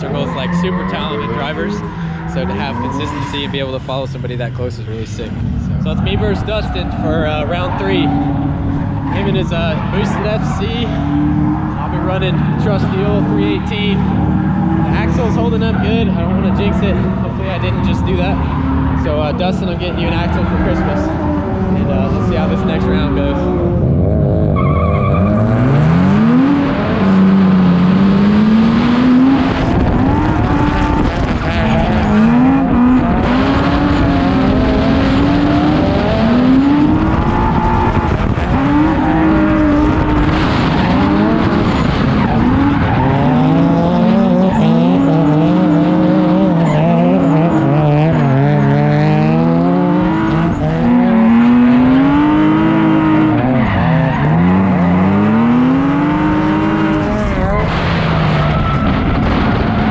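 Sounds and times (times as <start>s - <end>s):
car engines revving: 0.0s - 59.9s
tyres squealing and skidding: 0.0s - 59.9s.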